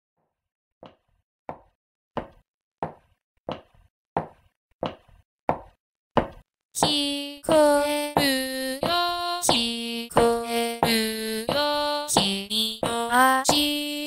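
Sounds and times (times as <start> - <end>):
footsteps: 2.2 - 13.6.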